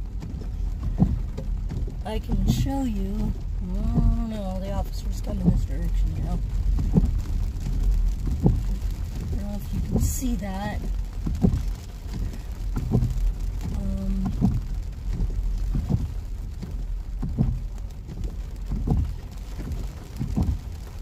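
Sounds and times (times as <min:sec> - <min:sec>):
low car rumble: 0:00.0 - 0:21.0
rain on car: 0:00.0 - 0:21.0
windshield wipers sweeping: 0:00.0 - 0:21.0.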